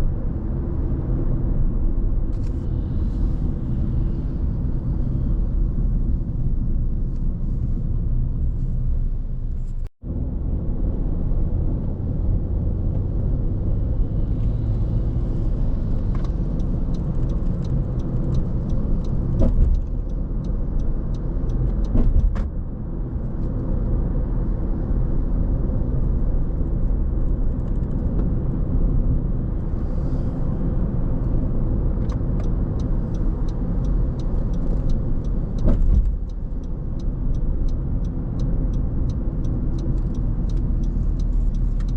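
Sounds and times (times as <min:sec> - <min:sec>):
car tyres and engine rumble: 0:00.0 - 0:41.9.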